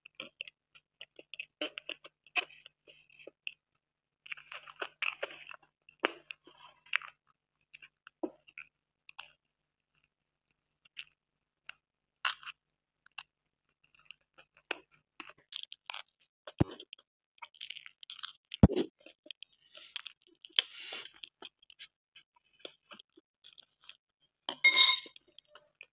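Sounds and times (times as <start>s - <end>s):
chewing with wet mouth clicks: 0.1s - 24.0s.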